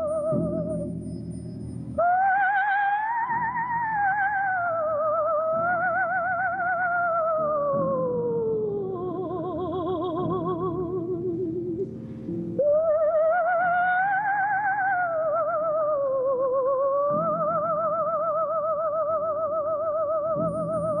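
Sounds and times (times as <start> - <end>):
soprano singing wordless line: 0.0 - 1.0, 2.0 - 21.0.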